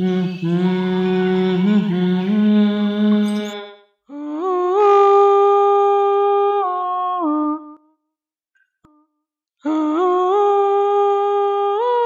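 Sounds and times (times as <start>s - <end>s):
person singing long notes: 0.0s - 7.8s, 9.6s - 12.0s.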